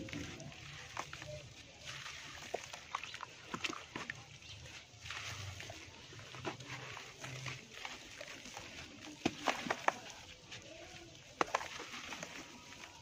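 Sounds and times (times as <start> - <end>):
dirt crumbling in water: 0.0 - 13.0.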